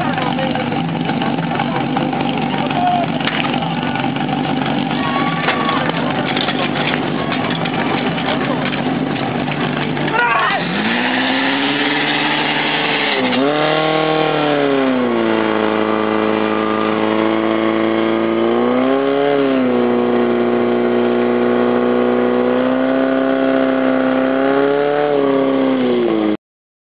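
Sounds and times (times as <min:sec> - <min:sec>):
pump engine revving: 0:00.0 - 0:26.4.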